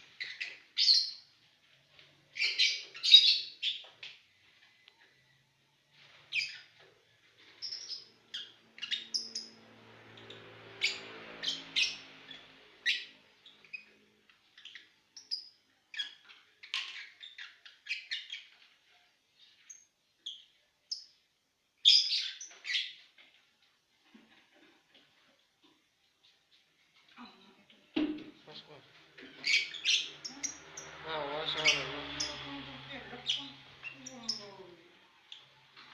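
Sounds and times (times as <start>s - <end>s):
lovebirds chirping: 0.0s - 5.3s, 6.0s - 9.6s, 10.2s - 21.2s, 21.8s - 23.2s, 28.2s - 35.9s.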